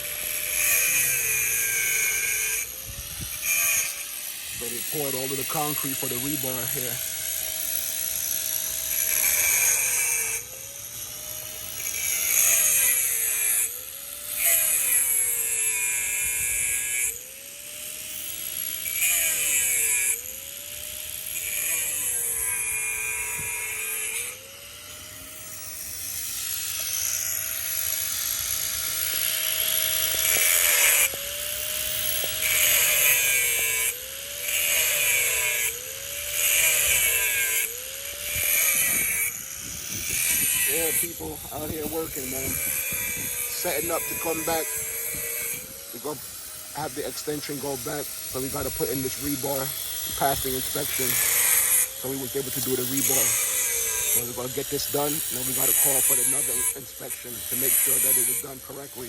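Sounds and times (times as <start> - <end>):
power saw cutting steel rebar: 0.0 - 59.0.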